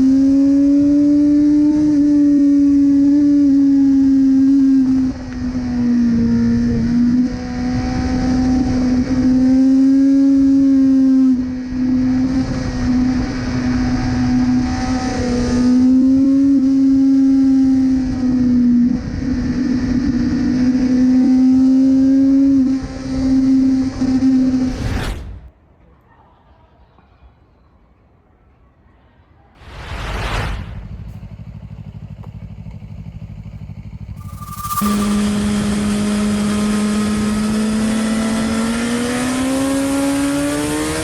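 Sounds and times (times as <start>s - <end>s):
motorcycle engine at high revs: 0.0s - 24.8s, 30.8s - 41.0s.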